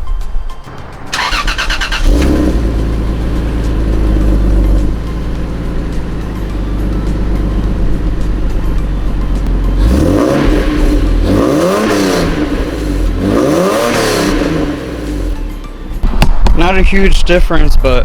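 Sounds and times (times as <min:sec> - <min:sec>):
car engine idling and revving: 0:00.6 - 0:16.6.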